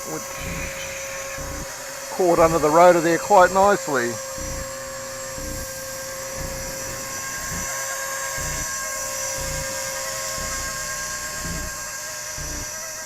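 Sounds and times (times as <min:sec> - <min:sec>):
rc helicopter whine: 0:00.0 - 0:13.0.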